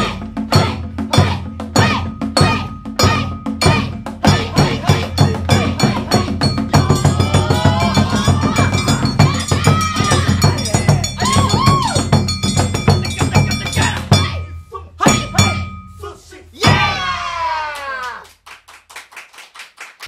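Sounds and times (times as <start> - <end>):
taiko drums: 0.0 - 16.0, 16.6 - 17.5.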